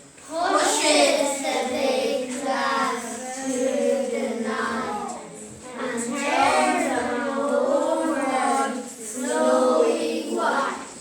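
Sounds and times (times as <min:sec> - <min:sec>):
young children singing together: 0:00.3 - 0:11.0.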